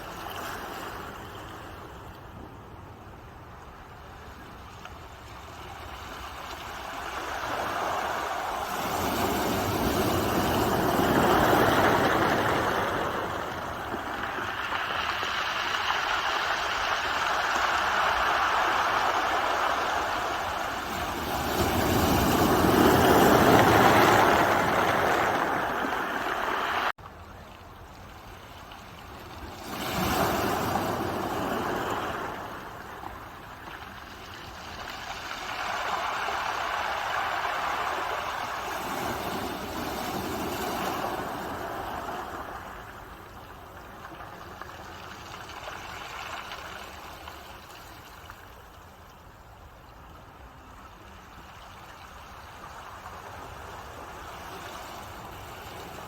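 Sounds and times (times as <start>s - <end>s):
ocean waves breaking on shore: 0.0s - 27.0s, 28.0s - 56.0s.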